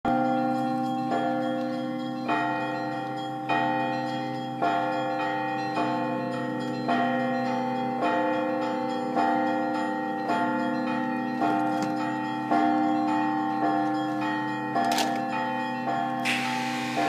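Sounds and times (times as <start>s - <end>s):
church bells ringing: 0.1s - 17.0s.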